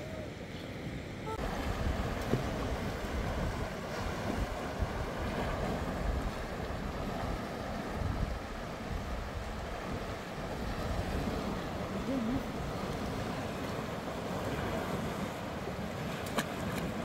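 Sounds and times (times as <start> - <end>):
wind buffeting microphone: 1.4 - 17.0.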